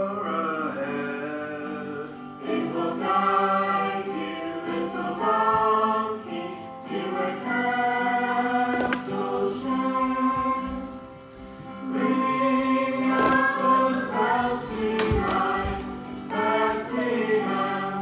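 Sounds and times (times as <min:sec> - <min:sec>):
choir singing: 0:00.0 - 0:11.0, 0:11.8 - 0:18.0.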